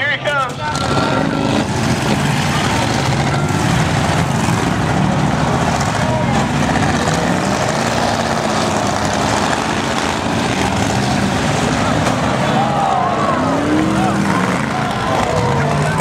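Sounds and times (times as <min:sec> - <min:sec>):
car engines revving: 0:00.0 - 0:16.0
voices: 0:00.0 - 0:16.0.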